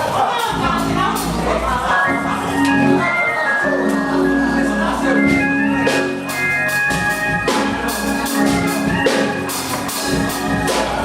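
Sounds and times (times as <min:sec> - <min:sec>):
drum kit beat with cymbals: 0:00.0 - 0:02.8, 0:03.7 - 0:11.0
organ chords: 0:00.5 - 0:11.0.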